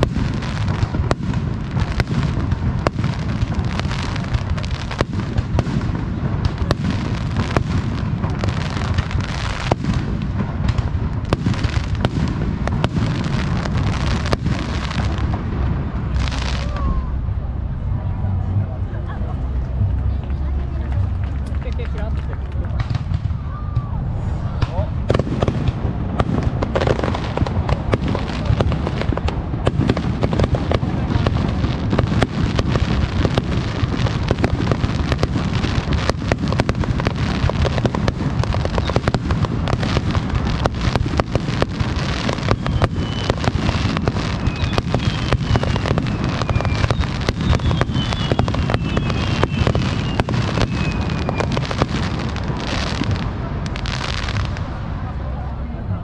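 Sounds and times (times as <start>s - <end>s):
whistling fireworks: 0.0s - 17.4s, 19.7s - 55.4s
fireworks booming and crackling: 0.0s - 56.0s.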